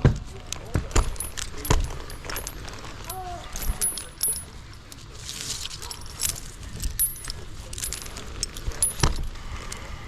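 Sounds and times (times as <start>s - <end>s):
metallic clinking and jingling: 0.9s - 9.4s.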